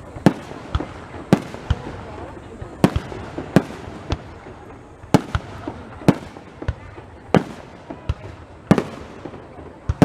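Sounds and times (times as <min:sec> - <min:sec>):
fireworks bangs: 0:00.0 - 0:10.0
steady background hiss: 0:00.0 - 0:10.0.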